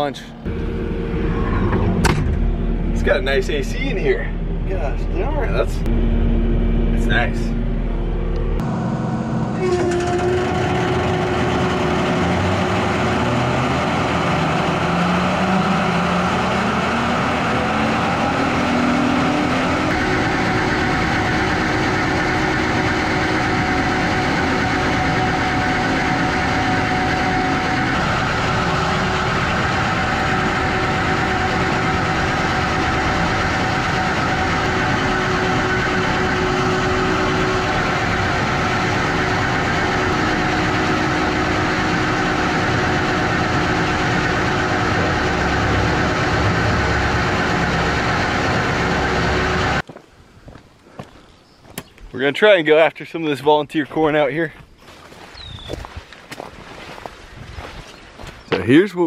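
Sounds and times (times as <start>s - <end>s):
mowing machine engine humming: 0.0s - 49.8s.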